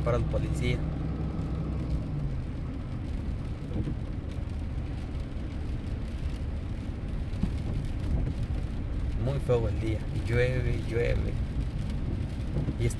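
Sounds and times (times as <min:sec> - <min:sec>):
engine and road rumble: 0:00.0 - 0:12.9.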